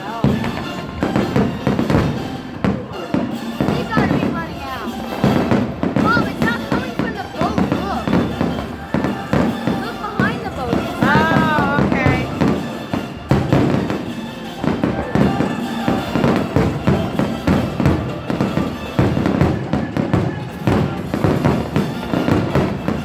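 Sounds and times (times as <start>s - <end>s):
fireworks booming and crackling: 0.0s - 23.0s
music playing: 0.0s - 23.0s.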